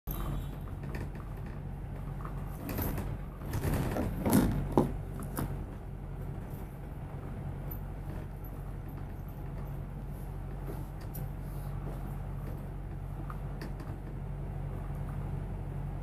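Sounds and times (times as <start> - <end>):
bus engine humming: 0.1 - 16.0.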